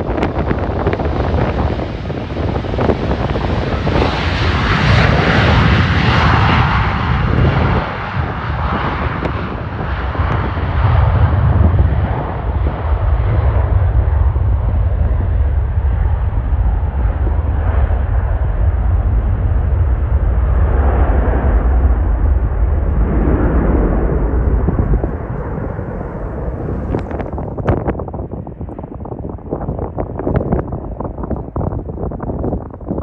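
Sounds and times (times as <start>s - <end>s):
jet engines passing: 0.0s - 33.0s
low rumble: 0.0s - 33.0s.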